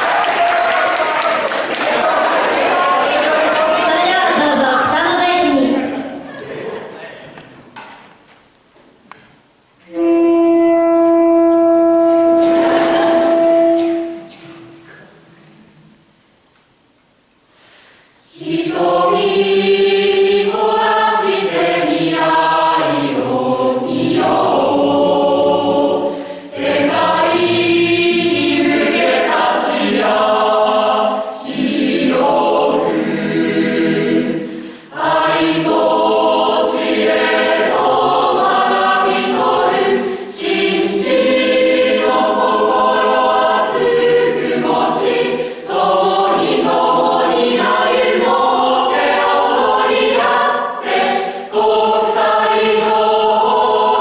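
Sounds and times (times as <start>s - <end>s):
choir singing: 0.0s - 7.0s, 9.9s - 15.0s, 18.2s - 54.0s.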